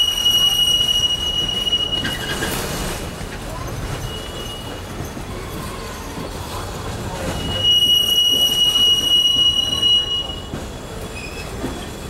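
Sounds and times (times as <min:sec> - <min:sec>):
train coach rumbling on track: 0:00.0 - 0:12.0
wheels squealing against rails: 0:00.0 - 0:12.0.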